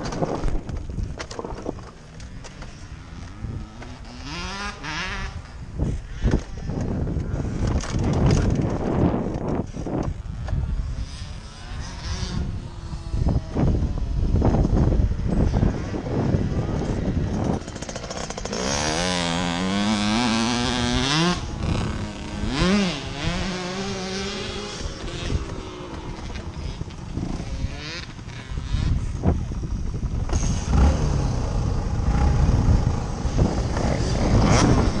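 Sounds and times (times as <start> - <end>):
low noisy rumble: 0.0 - 35.0
dirt bike engine revving: 1.4 - 35.0.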